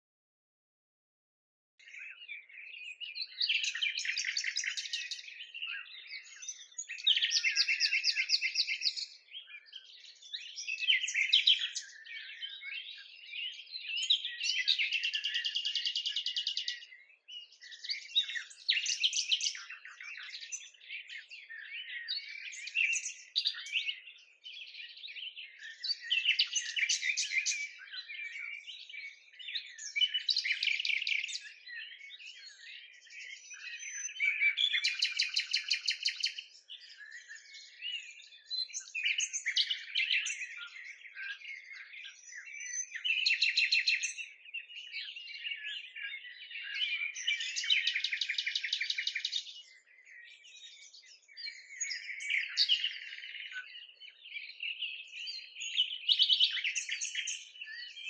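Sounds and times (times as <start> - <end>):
songbirds chirping and trilling: 1.8 - 58.0.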